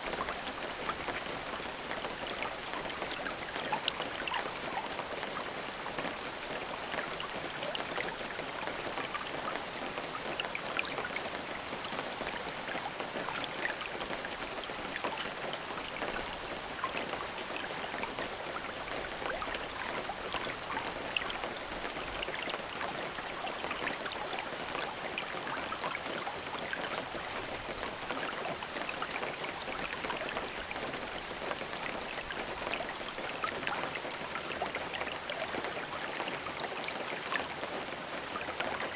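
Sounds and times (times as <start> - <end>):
rain falling: 0.0 - 38.9
raindrops ticking on a surface: 0.0 - 38.9.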